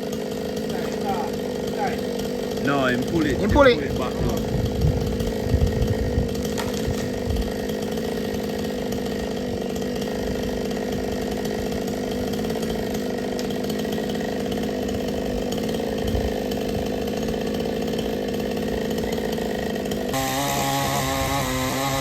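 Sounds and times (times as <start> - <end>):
chainsaw engine running: 0.0 - 22.0.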